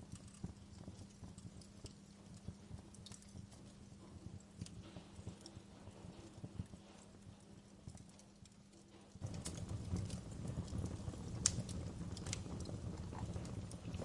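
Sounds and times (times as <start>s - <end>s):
low rumbling hiss: 0.0s - 14.0s
wood fire crackling and popping: 0.0s - 14.0s.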